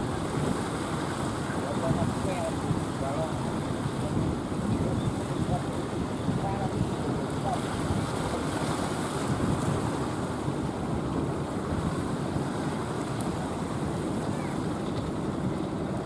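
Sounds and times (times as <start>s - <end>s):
heavy surf breaking: 0.0s - 16.0s
wind buffeting microphone: 0.0s - 16.0s.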